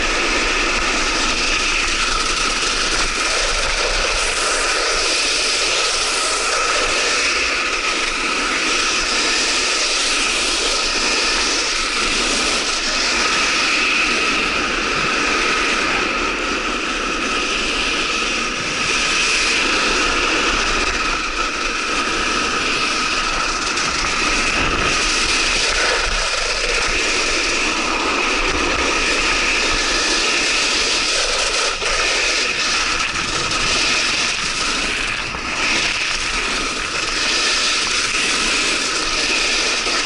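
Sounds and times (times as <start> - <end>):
faint steady whine: 0.0 - 40.0
wind on microphone: 0.0 - 40.0.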